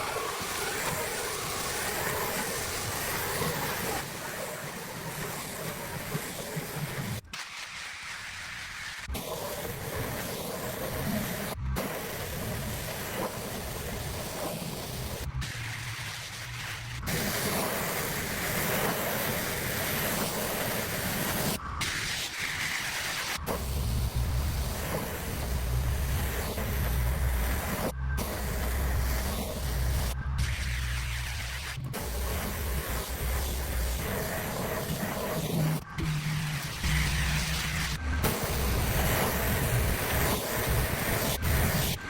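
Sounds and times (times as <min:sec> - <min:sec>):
pressure washer spraying: 0:00.0 - 0:42.0.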